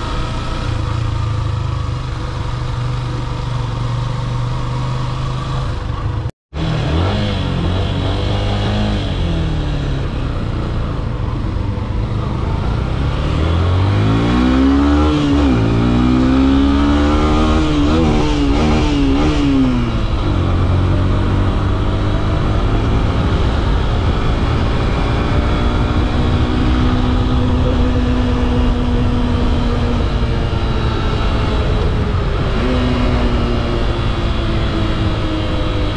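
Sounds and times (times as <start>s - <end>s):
motorcycle engine accelerating: 0.0s - 35.9s
road and wind noise: 0.0s - 35.9s.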